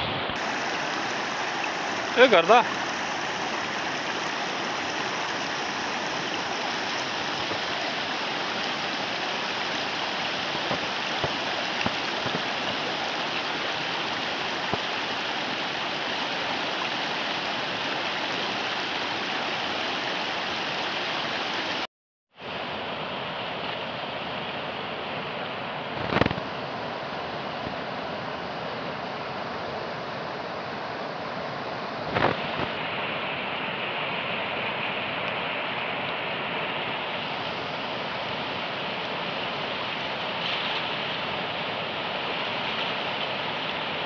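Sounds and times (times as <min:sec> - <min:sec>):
river rushing over stones: 0:00.0 - 0:44.0.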